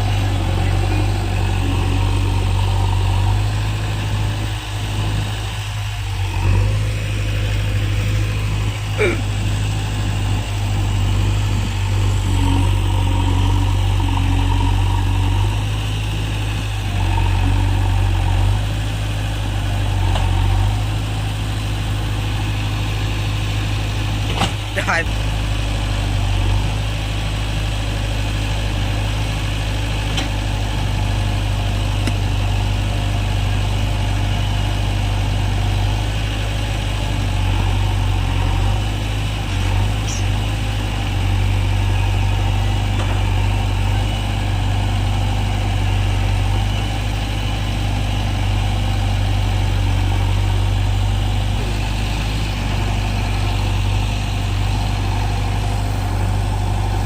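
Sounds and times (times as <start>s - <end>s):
diesel engine running at low speed: 0.0s - 57.0s.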